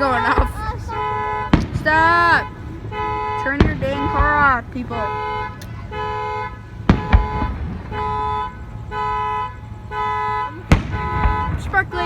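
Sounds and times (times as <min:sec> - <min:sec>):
car horn blasts: 0:00.0 - 0:12.0
firework bangs: 0:00.0 - 0:12.0.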